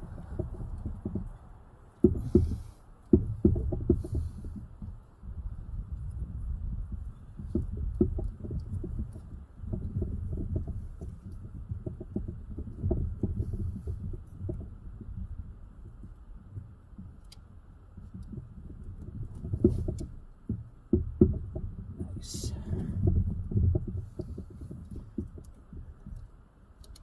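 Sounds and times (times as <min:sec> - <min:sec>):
hands working rubber fuel line: 0:00.0 - 0:27.0.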